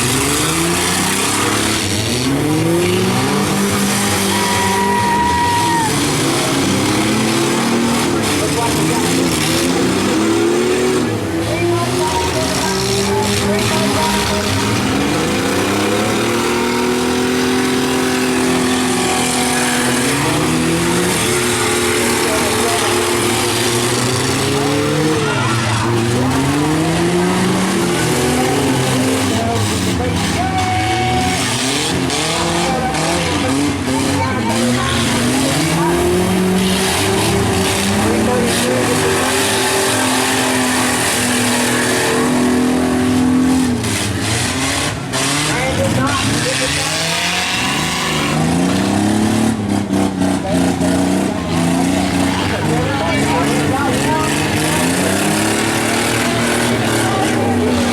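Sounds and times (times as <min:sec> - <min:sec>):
other engines running: 0:00.0 - 0:57.9
truck engine revving hard: 0:00.0 - 0:57.9.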